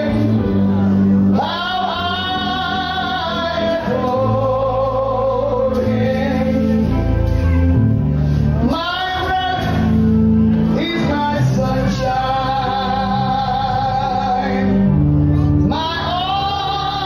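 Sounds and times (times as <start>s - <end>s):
man singing a hymn: 0.0s - 7.4s, 8.4s - 17.0s
instrumental accompaniment: 0.0s - 17.0s.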